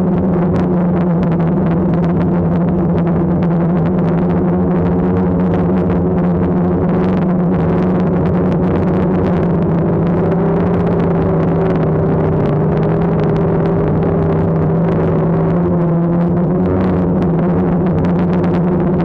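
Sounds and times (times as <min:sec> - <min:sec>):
drone propellers whining: 0:00.0 - 0:19.0
gusting wind: 0:00.0 - 0:19.0.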